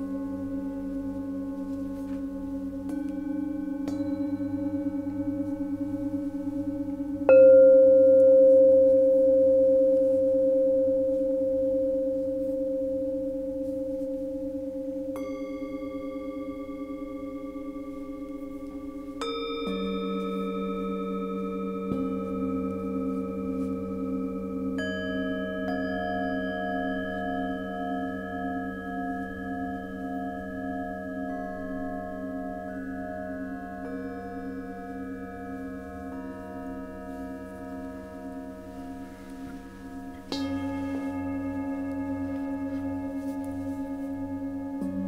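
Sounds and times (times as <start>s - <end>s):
singing bowls ringing: 0.0s - 45.0s.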